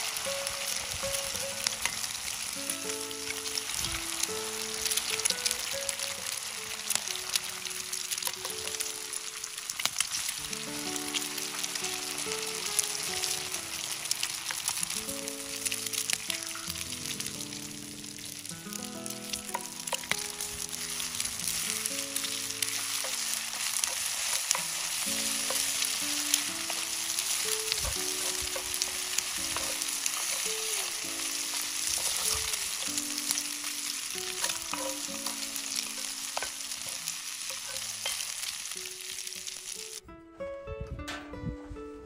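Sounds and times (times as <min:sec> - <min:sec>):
eggs and bacon sizzling in a skillet: 0:00.0 - 0:40.0.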